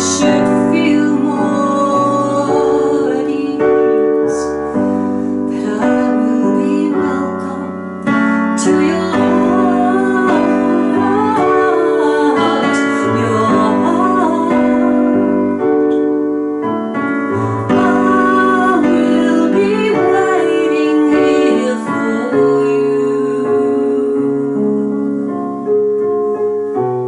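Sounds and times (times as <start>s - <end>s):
woman singing with vibrato: 0.0s - 15.9s, 16.9s - 25.4s
piano chords: 0.0s - 27.0s.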